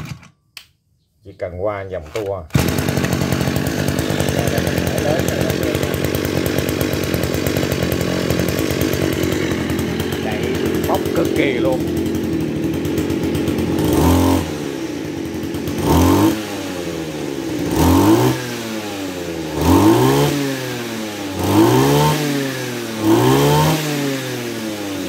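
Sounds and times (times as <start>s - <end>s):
brush cutter engine revving: 2.1s - 25.0s.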